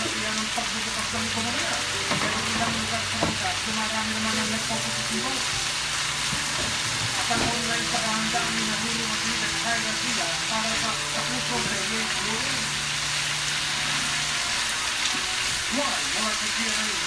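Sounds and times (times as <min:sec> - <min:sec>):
vegetables sizzling in a hot pan: 0:00.0 - 0:17.0.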